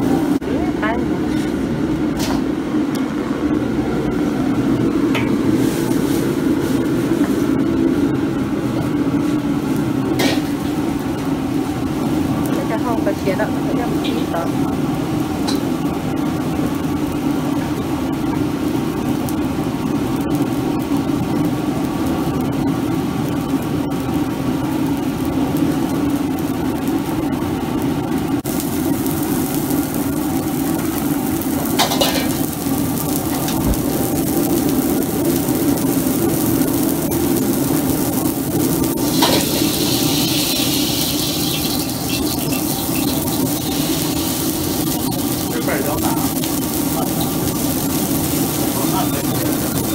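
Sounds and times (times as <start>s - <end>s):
gas wok range roaring: 0.0s - 49.9s
stir-fry sizzling in a wok: 0.0s - 49.9s.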